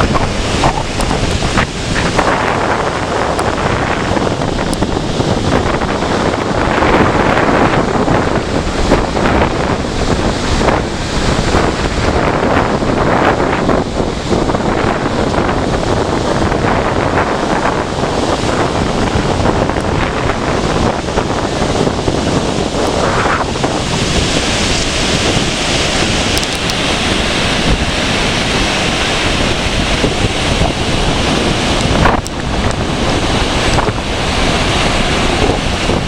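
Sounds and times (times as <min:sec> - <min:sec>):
surf breaking on shore: 0:00.0 - 0:36.0
wind buffeting microphone: 0:00.0 - 0:36.0.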